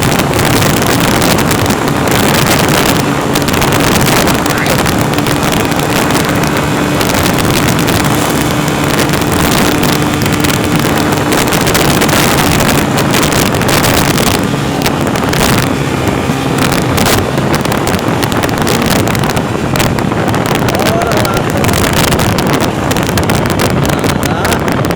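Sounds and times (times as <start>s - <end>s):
vehicle engine running: 0.0s - 24.9s
wind noise on microphone: 0.0s - 24.9s.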